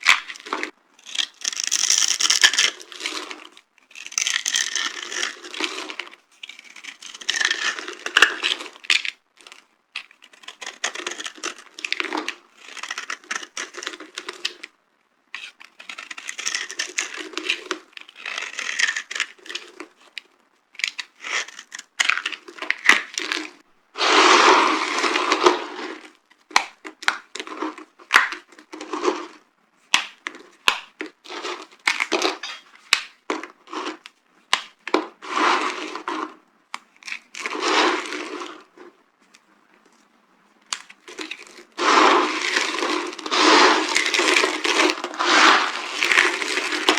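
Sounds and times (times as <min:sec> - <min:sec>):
dry soap crunching: 0:00.0 - 0:14.7, 0:15.4 - 0:46.9.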